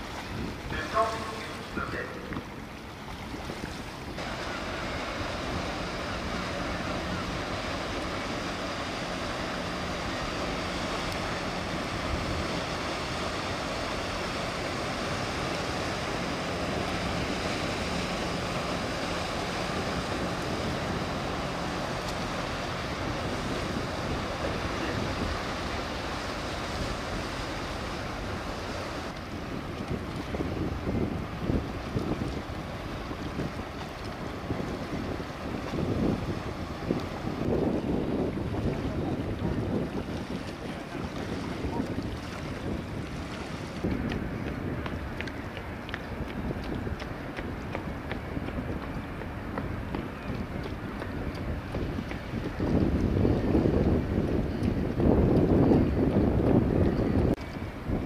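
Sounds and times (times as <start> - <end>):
boat engine humming: 0.0 - 58.0
rush of water: 0.0 - 58.0.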